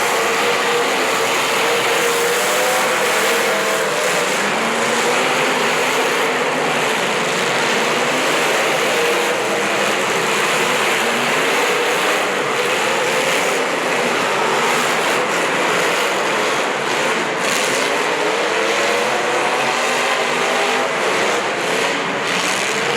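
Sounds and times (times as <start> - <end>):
racing engines revving: 0.0 - 22.9.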